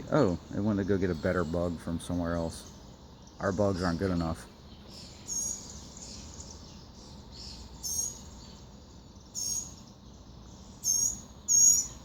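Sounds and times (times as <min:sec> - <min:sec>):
low background hum: 0:00.0 - 0:12.0
small bird chirping: 0:00.0 - 0:12.0.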